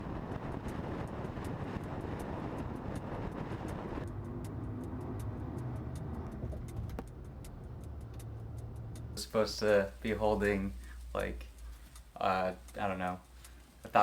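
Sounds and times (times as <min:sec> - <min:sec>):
car road and wind noise: 0:00.0 - 0:11.7
light regular ticks: 0:00.1 - 0:14.0.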